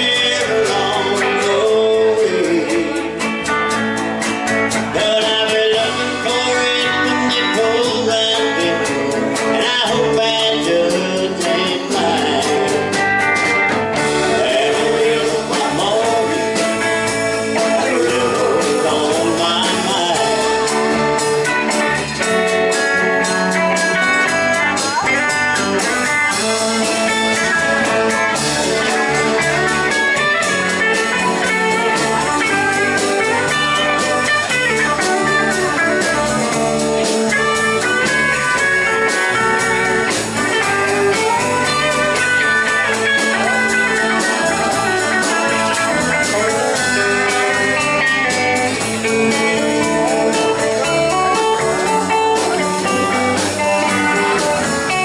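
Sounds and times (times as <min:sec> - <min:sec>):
country-rock band playing: 0:00.0 - 0:55.0.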